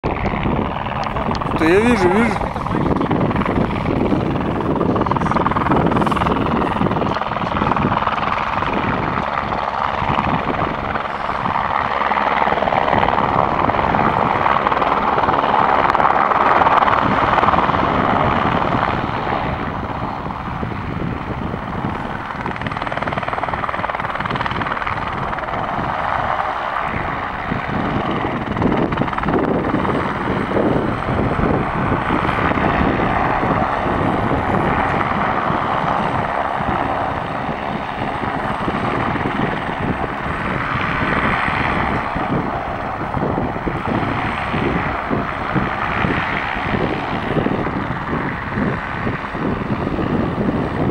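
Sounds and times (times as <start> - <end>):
helicopter turbine and rotor noise: 0.0 - 50.9.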